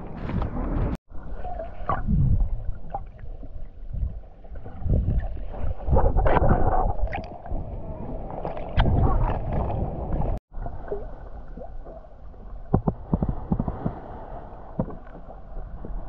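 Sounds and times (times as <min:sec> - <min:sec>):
water sloshing and splashing: 0:00.1 - 0:16.0.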